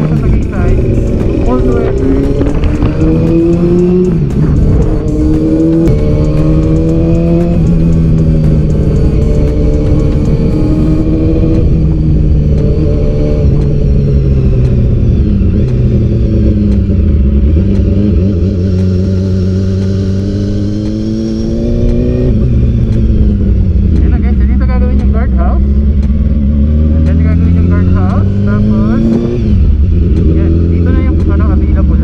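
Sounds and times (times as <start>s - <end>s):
vehicle engine accelerating: 0.0s - 32.0s.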